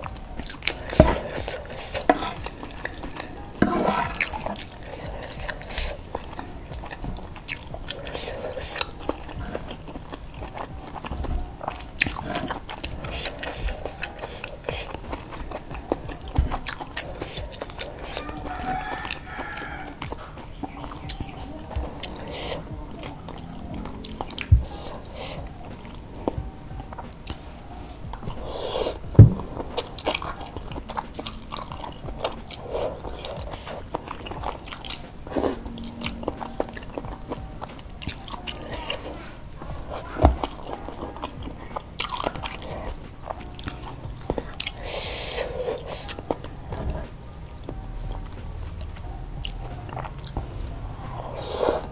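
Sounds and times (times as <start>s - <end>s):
person chewing noodles: 0.0s - 51.9s.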